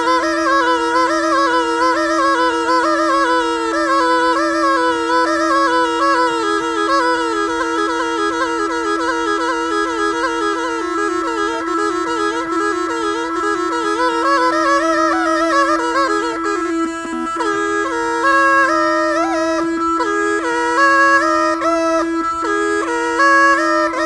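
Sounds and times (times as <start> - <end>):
gourd pipe melody with drone: 0.0 - 24.0.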